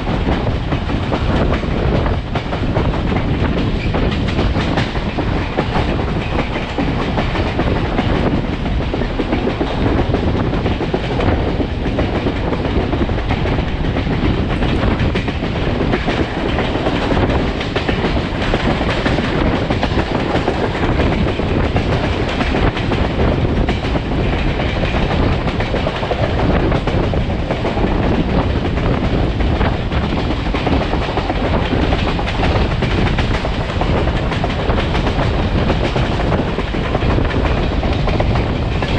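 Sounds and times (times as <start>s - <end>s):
train coach rumbling: 0.0s - 38.9s
wind rushing over microphone: 0.0s - 38.9s
wheels clicking over rail joints: 0.1s - 38.9s.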